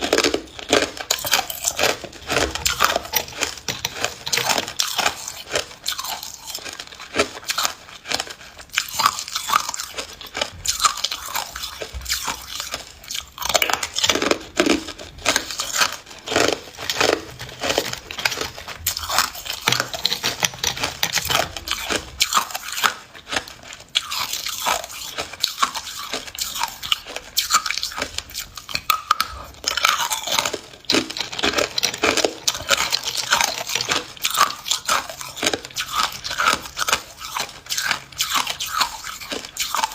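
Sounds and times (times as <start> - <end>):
person chewing hard ice: 0.0 - 39.9.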